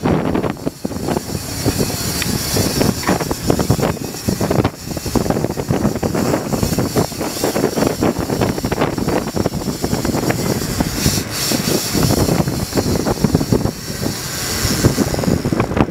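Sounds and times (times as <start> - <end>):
boat engine rumble: 0.0 - 15.9
water: 0.0 - 15.9
wind buffeting microphone: 0.0 - 15.9.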